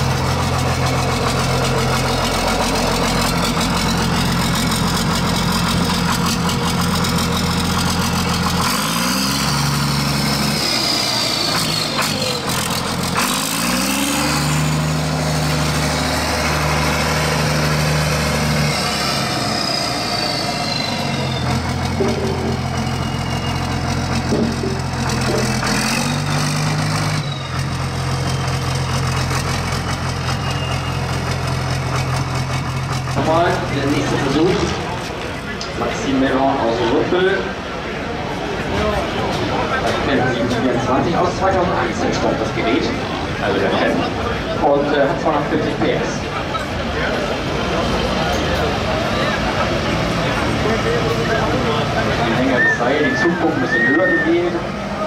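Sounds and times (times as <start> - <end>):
tractor engines idling and revving: 0.0 - 55.0.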